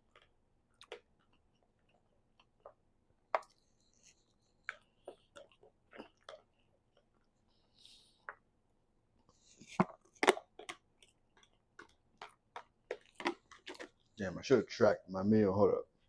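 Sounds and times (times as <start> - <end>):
person chewing: 0.0 - 8.4, 9.3 - 14.2.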